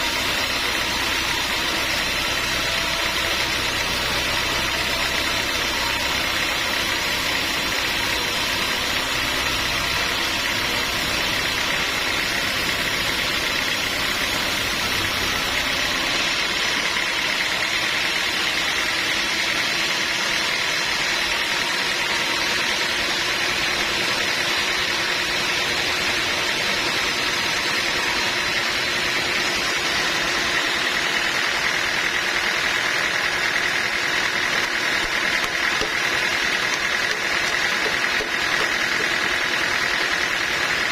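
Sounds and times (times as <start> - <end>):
sawmill machinery humming and whining: 0.0 - 40.9.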